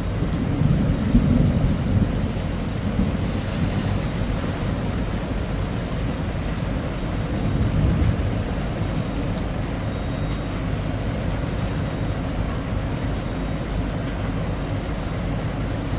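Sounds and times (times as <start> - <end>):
steady rain: 0.0 - 15.9.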